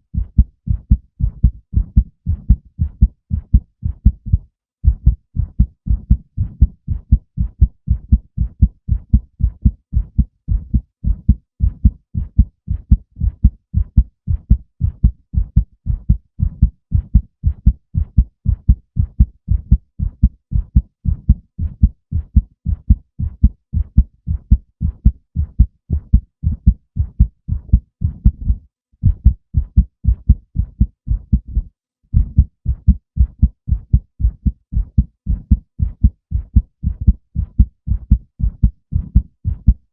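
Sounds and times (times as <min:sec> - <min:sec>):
heartbeat: 0:00.0 - 0:39.9.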